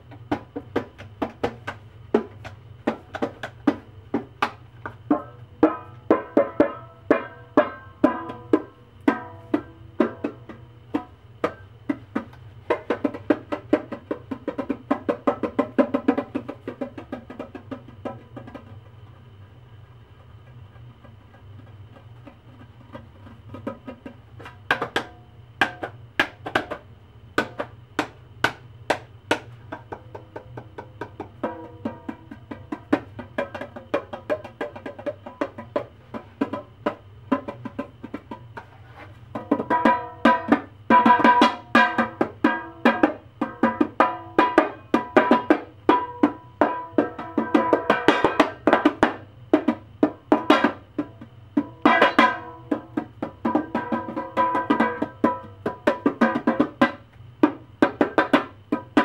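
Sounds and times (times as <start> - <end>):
hand percussion knocks: 0.0 - 18.9, 20.5 - 26.8, 27.4 - 38.7, 39.3 - 59.0.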